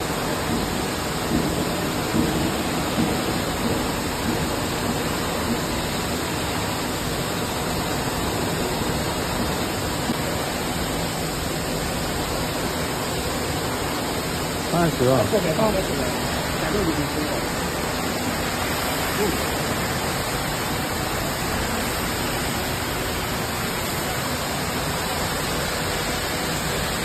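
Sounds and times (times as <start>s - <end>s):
induction furnace rushing noise: 0.0s - 27.0s.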